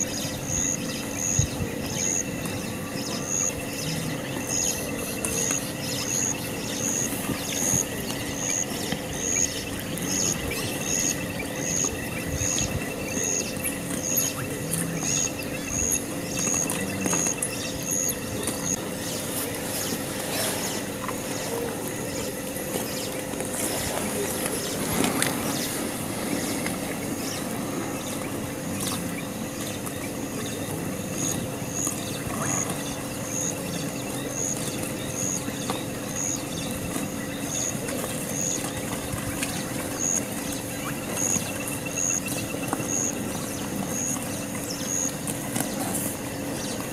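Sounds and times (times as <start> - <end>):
faint constant tones: 0.0 - 46.9.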